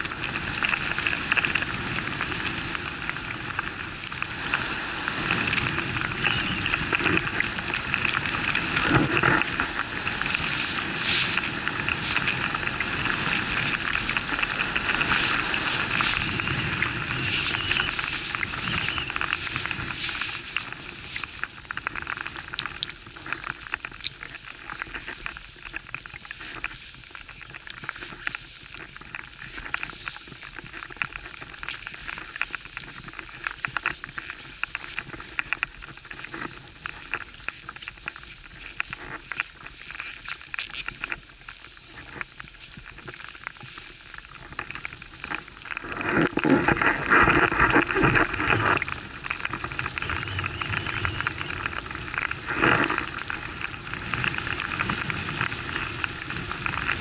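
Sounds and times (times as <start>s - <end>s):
small crackles: 0.0s - 57.0s
wind and snow noise on microphone: 0.0s - 57.0s.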